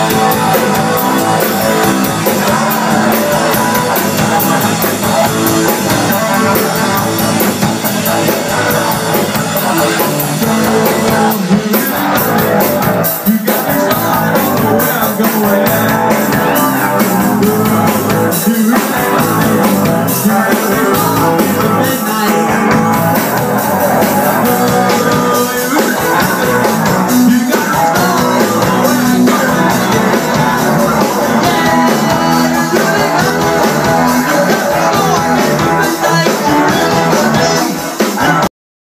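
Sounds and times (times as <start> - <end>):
drum kit: 0.0 - 38.5
electric guitar: 0.0 - 38.5.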